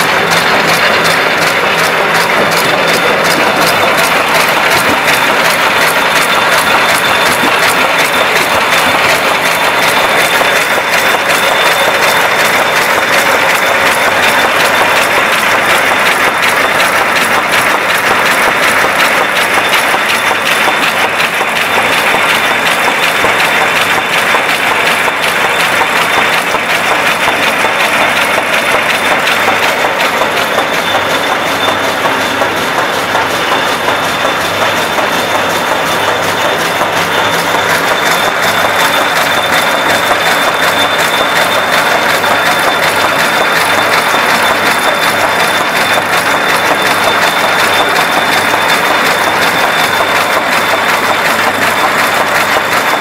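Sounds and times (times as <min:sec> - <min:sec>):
machine clattering: 0:00.0 - 0:53.0.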